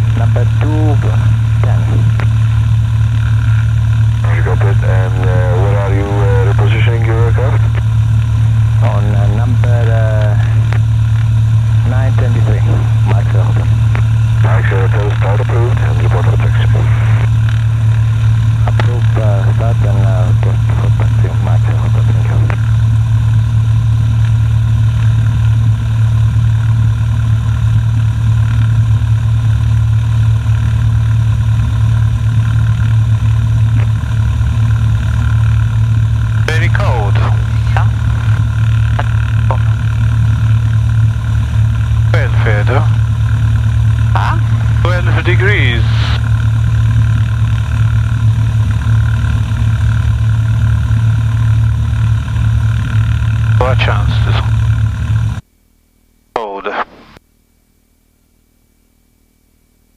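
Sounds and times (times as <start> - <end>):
aircraft piston engine idling: 0.0 - 55.4.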